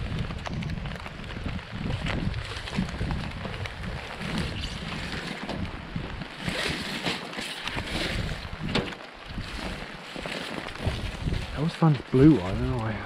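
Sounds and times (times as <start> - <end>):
muffled wind and rain: 0.0 - 13.0.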